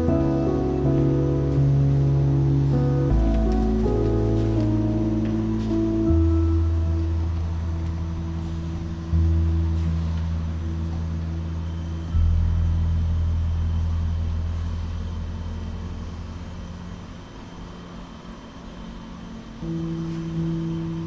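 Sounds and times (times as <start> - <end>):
sustained deep bass music: 0.0 - 21.0.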